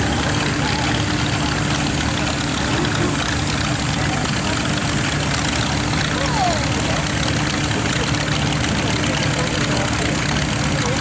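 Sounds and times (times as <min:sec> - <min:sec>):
tractor engines droning: 0:00.0 - 0:11.0.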